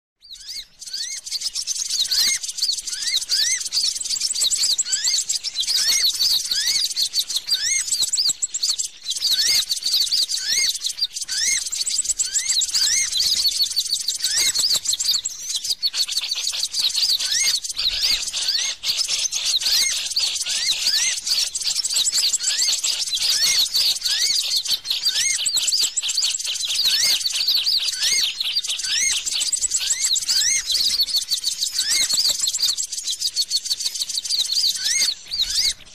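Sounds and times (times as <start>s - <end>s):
chorus of small birds chirping: 0.2s - 35.9s.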